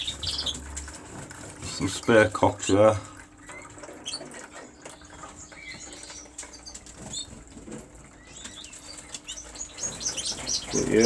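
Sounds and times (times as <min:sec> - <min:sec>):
canary chirps: 0:00.0 - 0:11.0.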